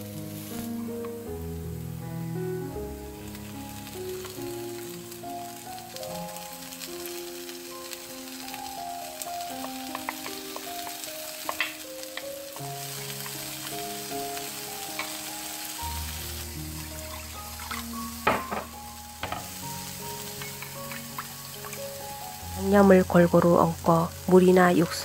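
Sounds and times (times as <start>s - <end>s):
soft background melody: 0.0s - 25.0s
tofu sizzling in frying pan: 0.0s - 25.0s.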